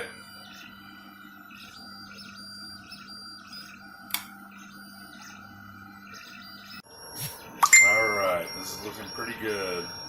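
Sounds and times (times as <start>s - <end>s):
printer humming: 0.0s - 10.0s
stepper motor whines: 0.0s - 10.0s.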